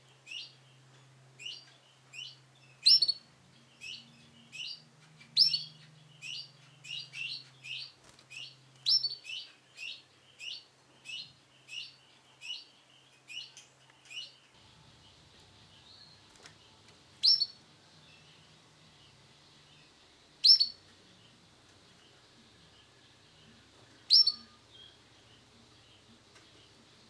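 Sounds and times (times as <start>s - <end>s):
canary chirping: 0.0s - 27.0s.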